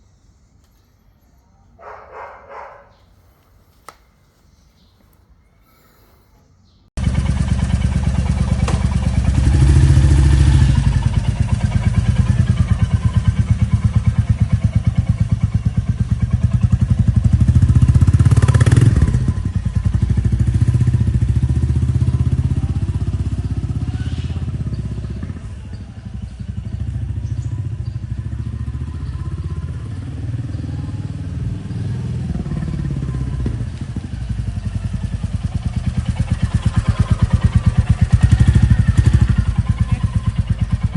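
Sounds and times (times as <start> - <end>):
motorcycle engine running: 7.0 - 40.9.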